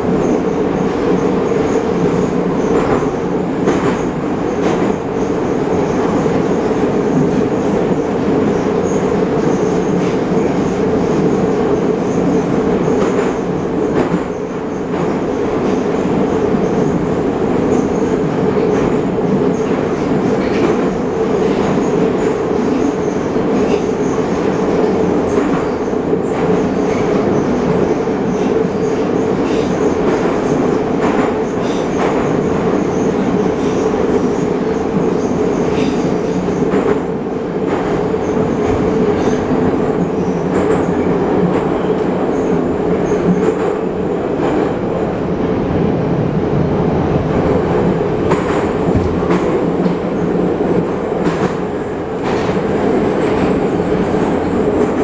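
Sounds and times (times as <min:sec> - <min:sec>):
metro train wheels rumbling: 0:00.0 - 0:55.0.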